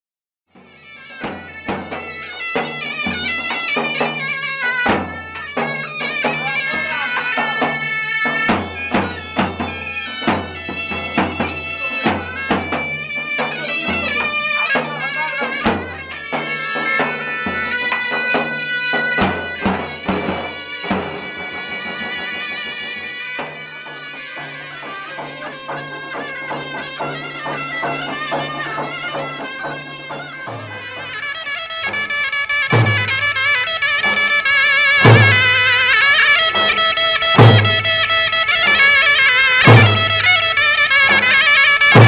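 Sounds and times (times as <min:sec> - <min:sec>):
drum strokes: 0:00.6 - 0:42.0
shrill reed pipe melody: 0:00.6 - 0:42.0.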